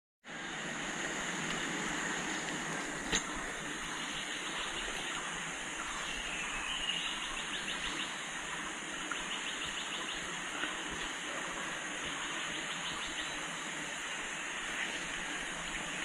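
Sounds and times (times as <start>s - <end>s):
steady hiss: 0.3s - 16.0s.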